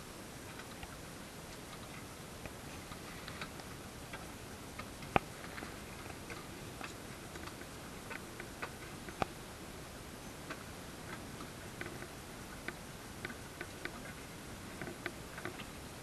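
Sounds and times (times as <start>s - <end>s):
hiss of wind and water: 0.0s - 16.0s
hull and rigging clicking: 0.3s - 9.4s, 10.3s - 16.0s.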